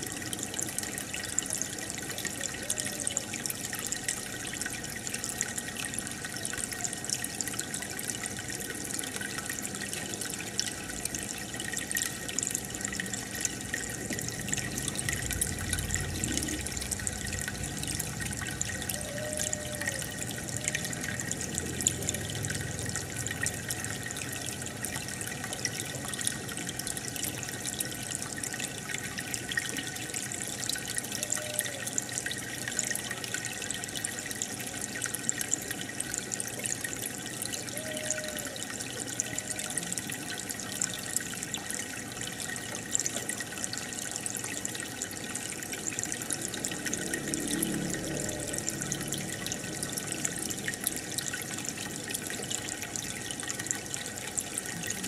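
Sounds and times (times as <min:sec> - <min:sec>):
aquarium water trickling and bubbling: 0:00.0 - 0:55.0.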